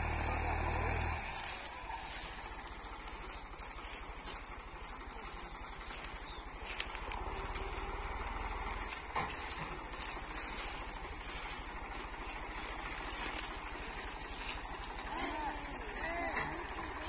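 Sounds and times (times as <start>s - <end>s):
rustle and knock of cane stalks: 0.0s - 17.0s
tractor engine idling: 0.0s - 17.0s.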